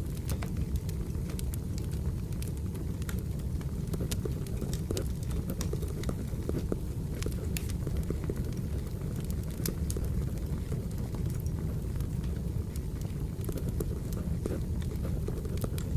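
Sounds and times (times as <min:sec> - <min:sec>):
fire crackling: 0:00.0 - 0:15.9
wood fire rumbling: 0:00.0 - 0:15.9.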